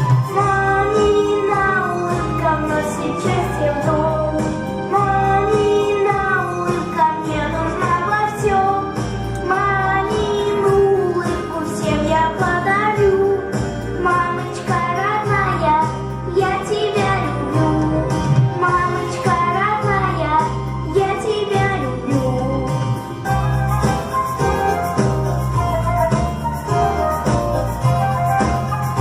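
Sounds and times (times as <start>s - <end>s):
backing track with steady beat: 0.0s - 29.0s.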